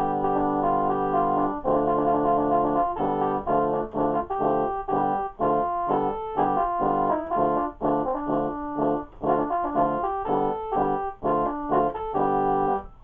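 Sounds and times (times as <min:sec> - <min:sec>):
repeated music chords: 0:00.0 - 0:13.0.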